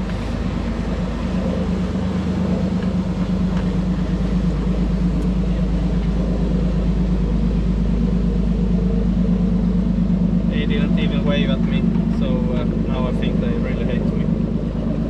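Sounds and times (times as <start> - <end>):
boat engine droning: 0.0 - 15.0
water noise: 0.0 - 15.0.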